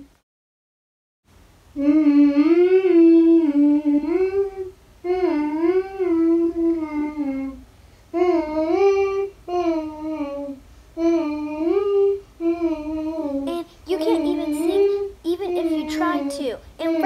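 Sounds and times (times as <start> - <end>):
girl singing wordless tune: 1.7 - 17.0.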